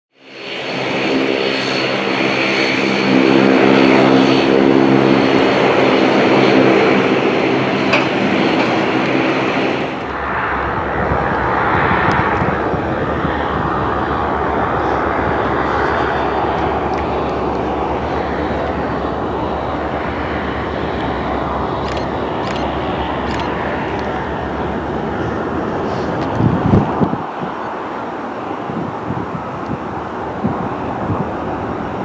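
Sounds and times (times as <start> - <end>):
deep jet rumble: 0.2 - 32.0
jet engines whining: 0.2 - 32.0.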